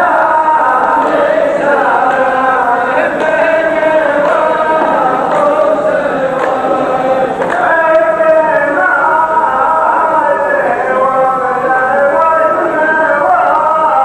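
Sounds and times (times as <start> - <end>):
men chanting together: 0.0 - 14.0.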